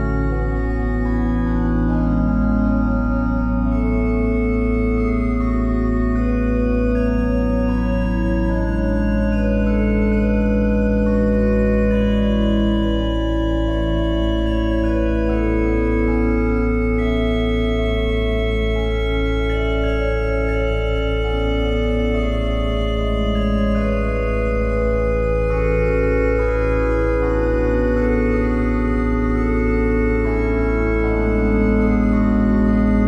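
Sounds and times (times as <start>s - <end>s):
slow organ-like chords: 0.0s - 33.0s
steady low drone: 0.0s - 33.0s.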